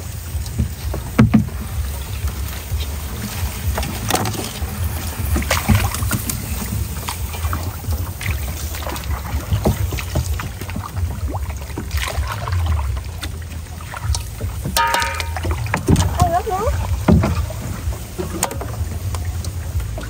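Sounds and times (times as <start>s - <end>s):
water splashing and sloshing: 0.0s - 20.0s
wind rumble on microphone: 0.0s - 20.0s.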